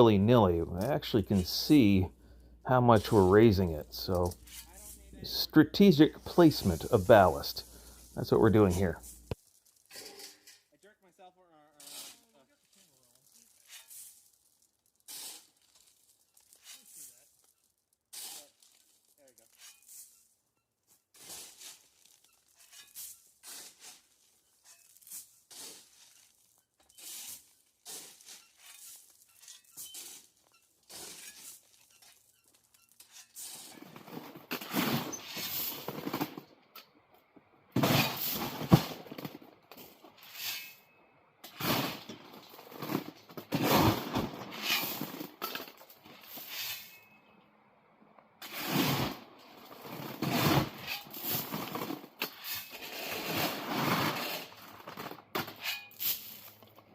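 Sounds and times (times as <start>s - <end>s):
shovel scraping gravel: 0.0s - 2.1s, 2.7s - 10.7s, 11.7s - 36.4s, 37.8s - 40.8s, 41.4s - 47.2s, 48.4s - 56.7s
shovel crunching scoops of stone: 2.7s - 10.7s, 11.8s - 36.5s, 41.4s - 47.1s, 48.4s - 56.6s.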